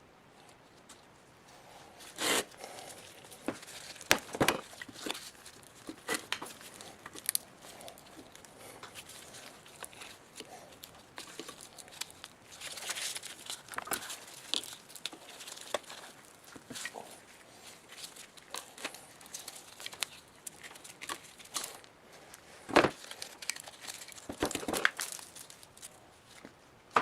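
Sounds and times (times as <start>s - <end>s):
rustling scrapes: 1.5s - 26.5s.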